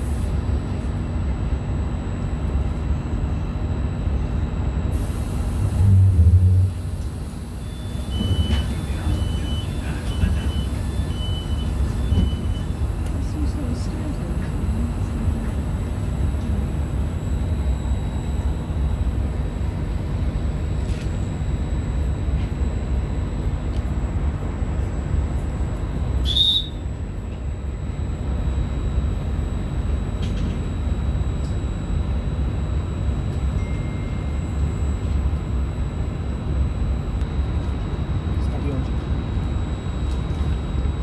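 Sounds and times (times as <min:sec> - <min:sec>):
train carriage hum and rumble: 0:00.0 - 0:41.0.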